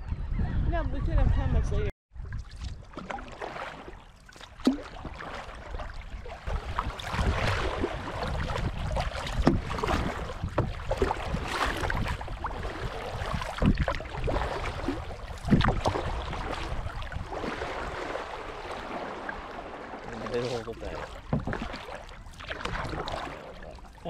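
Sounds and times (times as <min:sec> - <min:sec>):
kayak paddles splashing in water: 0:02.2 - 0:24.0.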